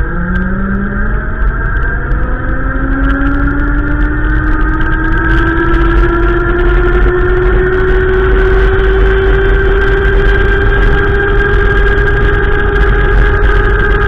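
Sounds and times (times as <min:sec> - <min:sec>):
droning tone rising in pitch: 0:00.0 - 0:14.0
wind buffeting microphone: 0:00.0 - 0:14.0.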